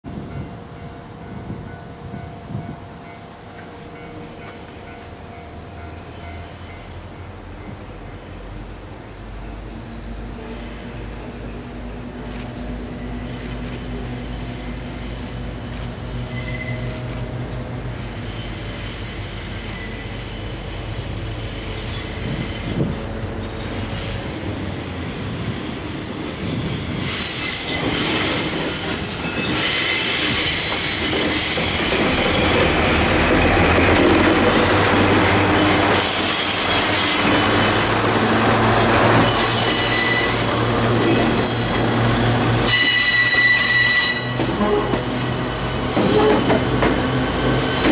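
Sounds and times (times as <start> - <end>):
diesel locomotive engine drone: 0.1 - 47.9
train wheels squealing on curve: 3.0 - 8.9, 10.1 - 47.9.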